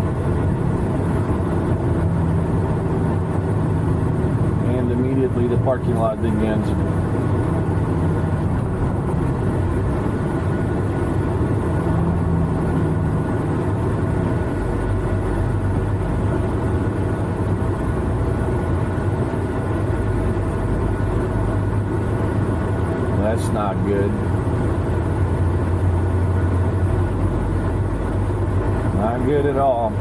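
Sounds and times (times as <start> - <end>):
truck engine rumble in cab: 0.0 - 30.0.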